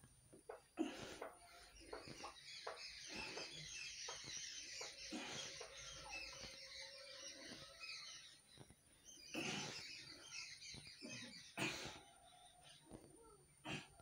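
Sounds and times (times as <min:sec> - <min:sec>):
small birds twittering: 0:00.3 - 0:14.0.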